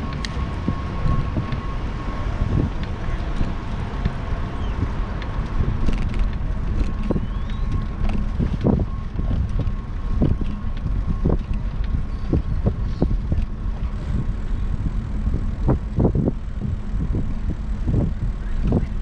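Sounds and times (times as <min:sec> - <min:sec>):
bike knocking and rattling: 0:00.0 - 0:19.0
low road rumble: 0:00.0 - 0:19.0
wind on microphone: 0:00.0 - 0:19.0.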